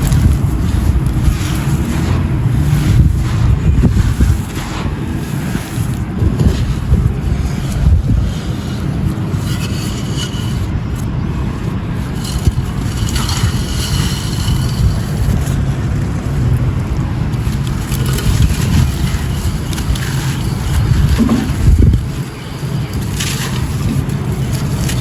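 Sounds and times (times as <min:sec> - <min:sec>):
concrete pot crumbling and crunching: 0:00.0 - 0:25.0.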